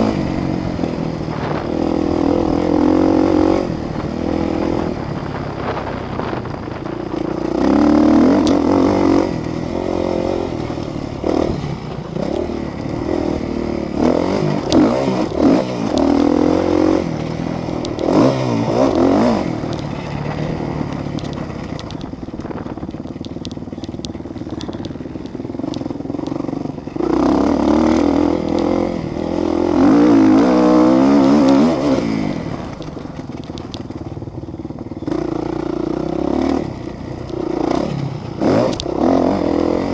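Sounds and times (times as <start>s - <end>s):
motocross motorcycles revving: 0.0s - 39.9s.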